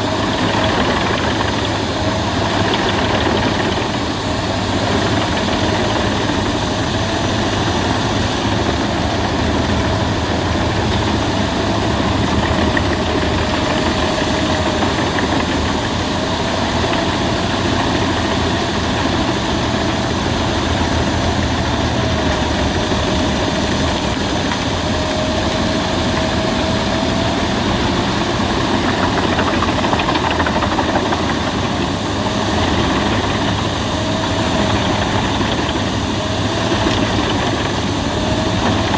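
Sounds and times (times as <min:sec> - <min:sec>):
wood chipper running: 0:00.0 - 0:38.9.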